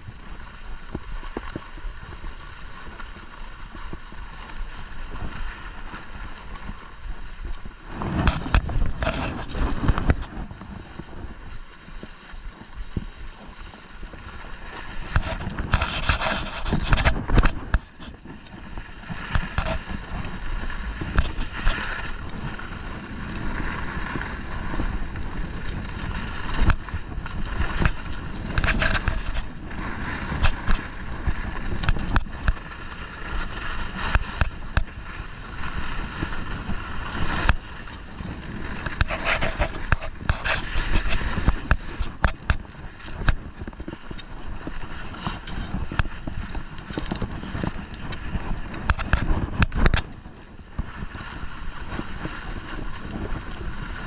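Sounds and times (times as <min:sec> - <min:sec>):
skis scraping over snow: 0:00.0 - 0:54.0
wind on microphone: 0:00.0 - 0:54.0.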